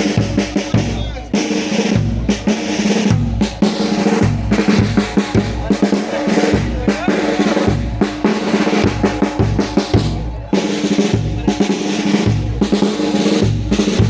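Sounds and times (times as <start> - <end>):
snare and bass drum beat: 0.0 - 14.0
wind instruments holding notes: 0.0 - 14.0.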